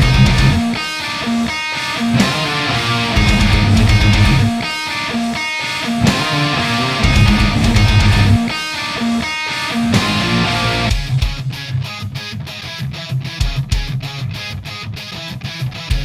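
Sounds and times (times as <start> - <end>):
electric guitar riff: 0.0 - 16.0.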